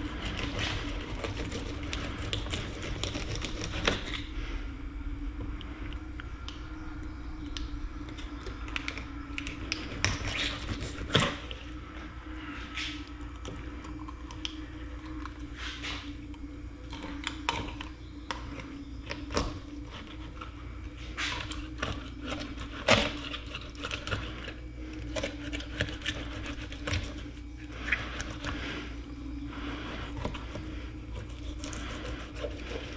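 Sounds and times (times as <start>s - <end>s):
knife cutting and scraping fish: 0.0s - 4.4s, 8.1s - 11.8s, 12.8s - 32.9s.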